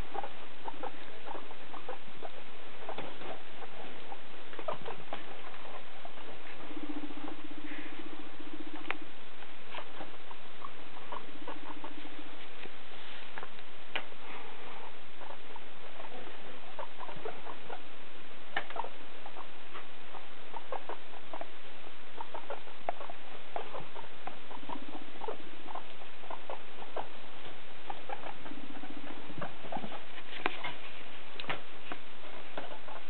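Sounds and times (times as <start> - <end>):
guinea pigs squeaking: 0.0 - 33.0
low pulsing rumble: 0.0 - 33.0.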